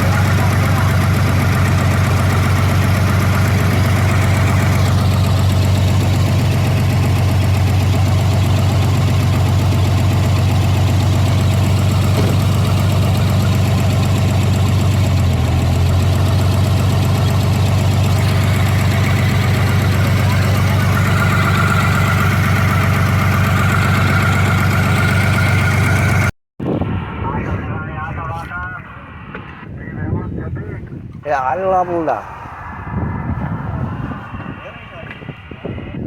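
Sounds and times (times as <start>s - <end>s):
boat engine droning: 0.0s - 26.3s, 31.5s - 36.0s.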